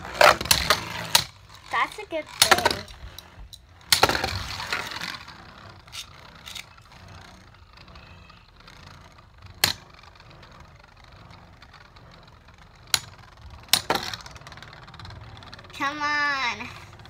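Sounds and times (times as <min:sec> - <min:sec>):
spinning tops clacking: 0:00.0 - 0:17.0
spinning tops whirring: 0:00.0 - 0:17.0.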